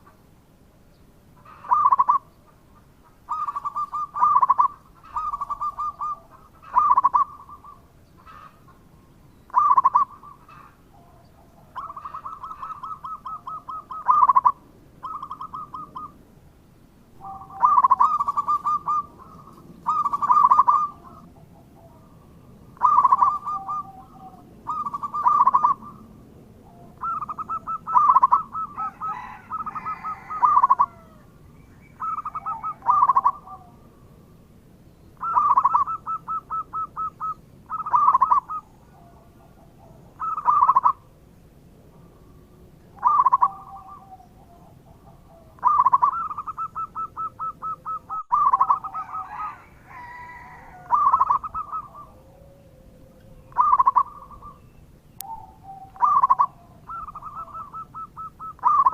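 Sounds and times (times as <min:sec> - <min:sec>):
doves cooing: 0:01.4 - 0:16.2, 0:17.2 - 0:34.4, 0:35.2 - 0:41.2, 0:41.9 - 0:58.9
other bird calls with gliding notes: 0:01.4 - 0:16.2, 0:17.2 - 0:34.4, 0:35.0 - 0:41.1, 0:41.9 - 0:58.9.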